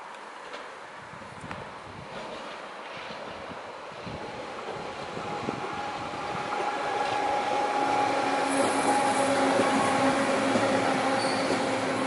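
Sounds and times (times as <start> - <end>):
train wheels on rails: 0.1 - 12.0.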